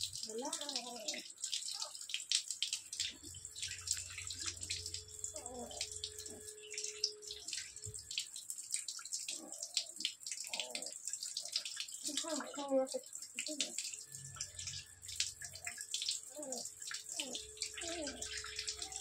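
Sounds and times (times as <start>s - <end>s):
tap water running into bucket: 0.0s - 19.0s
water splashing and dripping: 0.0s - 19.0s.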